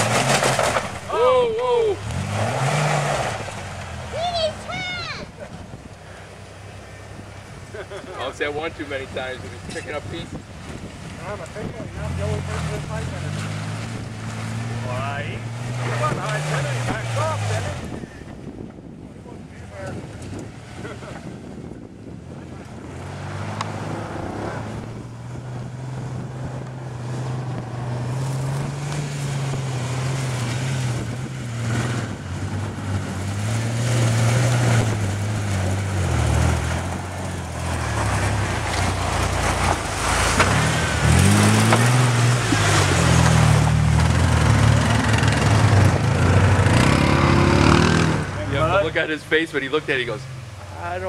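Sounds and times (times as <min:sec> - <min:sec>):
car engine revving: 0:00.0 - 0:18.6, 0:22.3 - 0:51.0.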